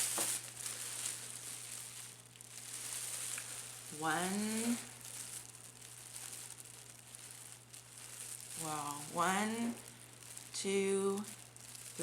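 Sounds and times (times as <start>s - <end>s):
plastic wrapping and dirt rustling: 0.0s - 12.0s.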